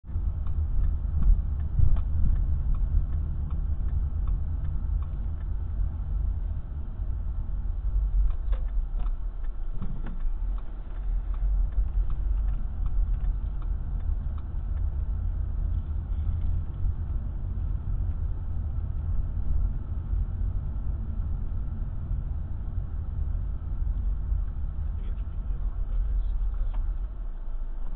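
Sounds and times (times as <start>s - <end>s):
car engine and road noise: 0.0s - 27.9s.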